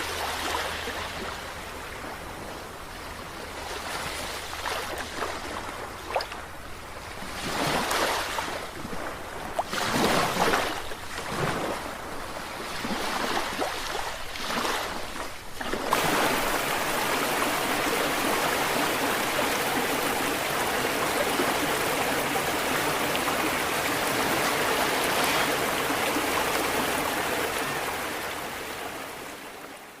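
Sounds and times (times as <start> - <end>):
dense rush of water: 0.0 - 30.0
sea water washing in surges: 0.0 - 30.0.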